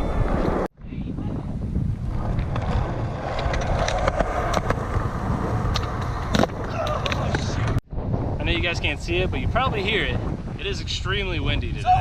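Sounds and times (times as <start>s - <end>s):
skateboard wheels rolling on concrete: 0.0s - 11.7s
wind buffeting microphone: 0.0s - 12.0s.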